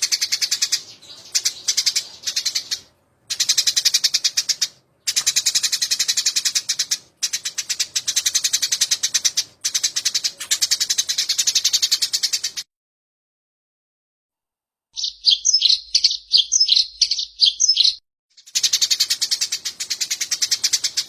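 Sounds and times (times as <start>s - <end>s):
sparrow scolding chirps: 0.0s - 12.7s, 15.0s - 21.0s.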